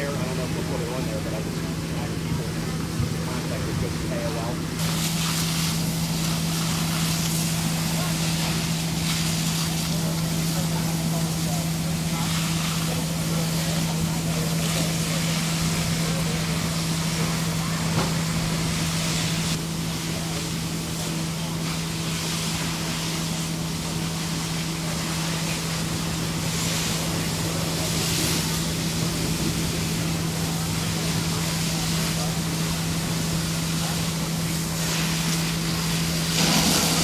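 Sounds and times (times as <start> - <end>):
engine running steadily: 0.0 - 37.0.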